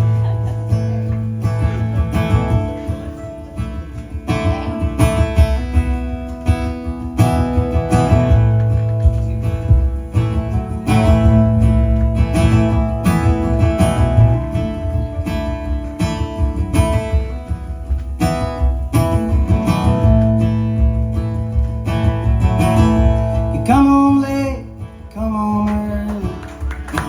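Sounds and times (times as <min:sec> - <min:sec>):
acoustic guitar strumming and picking: 0:00.0 - 0:27.0.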